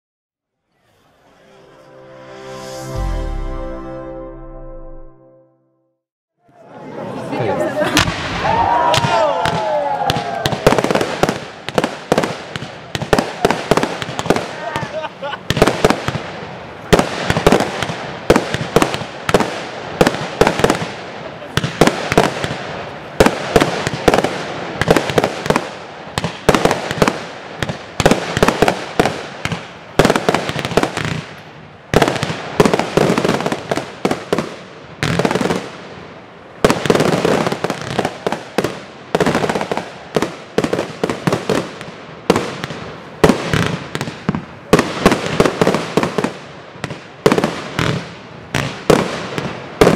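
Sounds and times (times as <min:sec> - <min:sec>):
fireworks bursting: 0:07.8 - 0:49.9.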